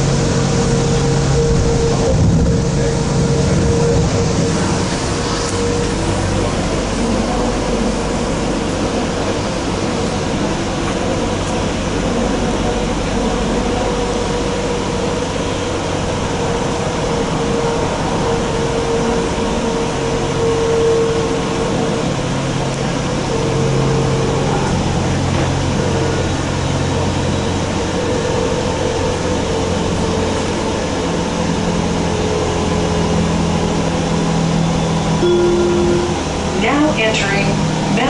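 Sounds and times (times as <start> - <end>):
light rail car rumble: 0.0 - 38.0.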